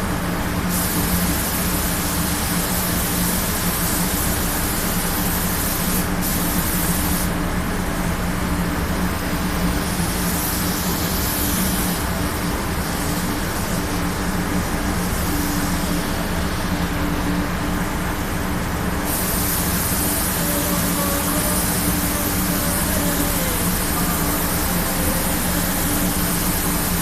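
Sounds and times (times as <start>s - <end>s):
low machine hum: 0.0s - 27.0s
paint spray gun hissing: 0.7s - 7.4s, 9.8s - 17.2s, 19.0s - 27.0s.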